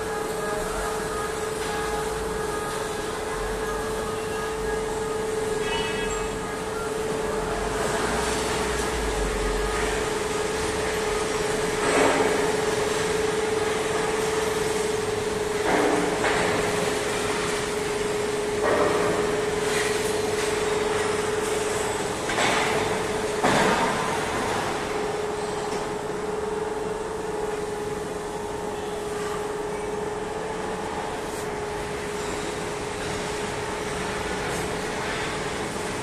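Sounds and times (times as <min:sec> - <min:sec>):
rolling mill machinery humming: 0:00.0 - 0:36.0.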